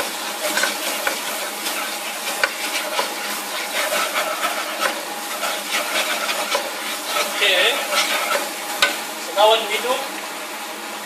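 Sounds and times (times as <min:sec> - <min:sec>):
spatula knocking pan: 0:00.0 - 0:09.1
spatula scraping pan: 0:00.0 - 0:09.1
oil sizzling in wok: 0:00.0 - 0:10.7.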